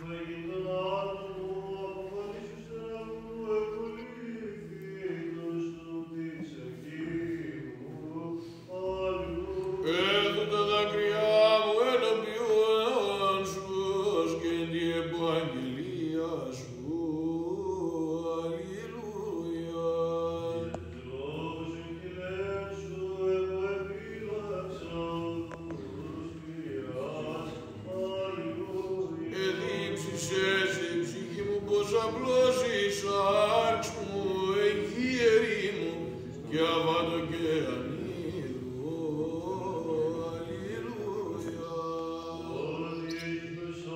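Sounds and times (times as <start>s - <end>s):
low held vocal drone: 0.0s - 43.9s
voices singing slow chant: 0.0s - 43.9s.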